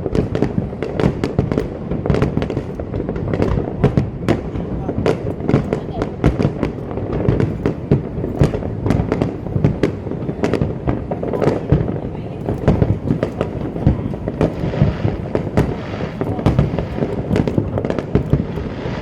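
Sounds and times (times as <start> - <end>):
fireworks bangs: 0.0 - 19.0
rumble of firework bursts: 0.0 - 19.0.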